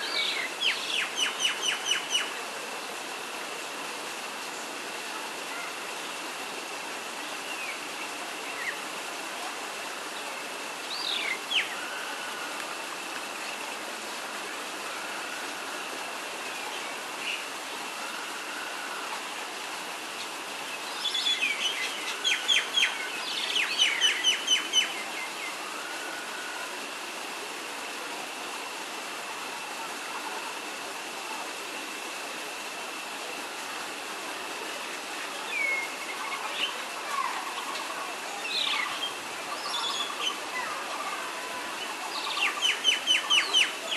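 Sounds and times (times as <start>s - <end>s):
steady hiss: 0.0s - 43.9s.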